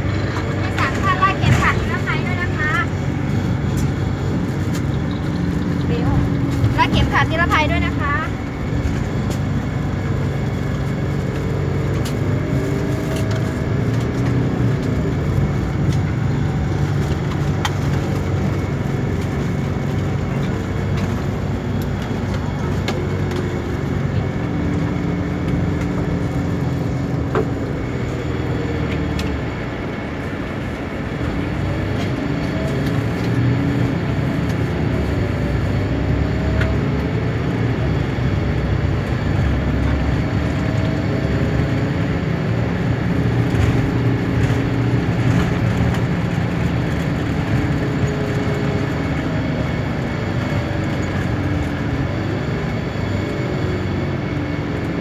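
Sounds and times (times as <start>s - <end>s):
coach engine and road rumble: 0.0s - 55.0s.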